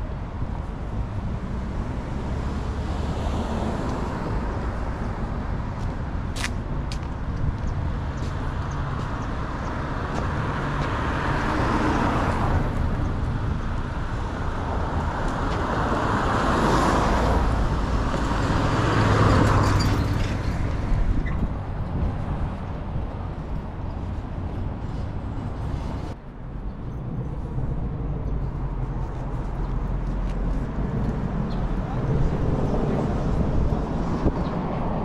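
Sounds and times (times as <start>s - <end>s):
cars passing by: 0.0s - 35.0s.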